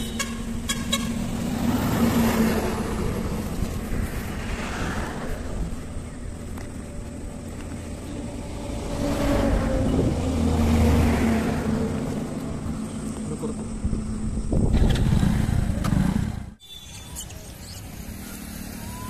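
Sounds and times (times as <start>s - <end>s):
outdoor ambience: 0.0s - 19.0s.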